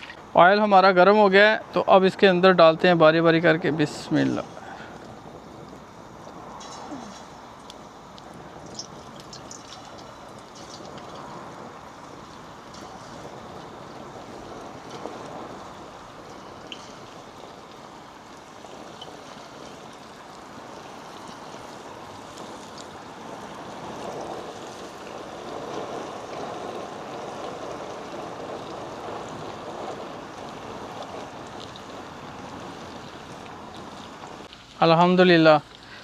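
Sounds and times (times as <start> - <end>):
chicken deep-frying in oil: 3.9 - 36.0.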